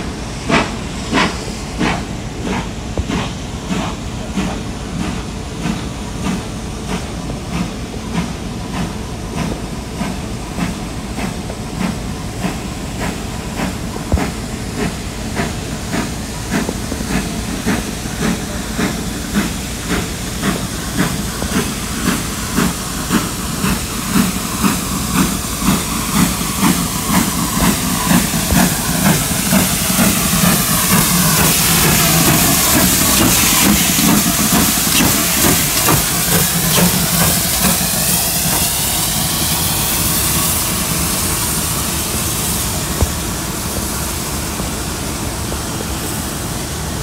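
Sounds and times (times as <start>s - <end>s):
hiss of escaping steam: 0.0s - 47.0s
steam locomotive chuffing: 0.0s - 47.0s.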